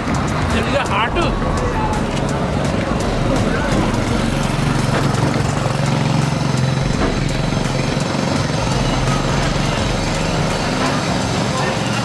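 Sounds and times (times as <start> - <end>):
engine idling hum: 0.0 - 12.0
street noise: 0.0 - 12.0.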